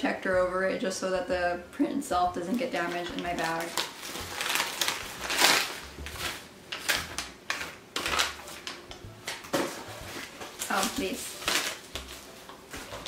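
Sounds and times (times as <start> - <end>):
plastic packaging crinkling: 2.5 - 13.0.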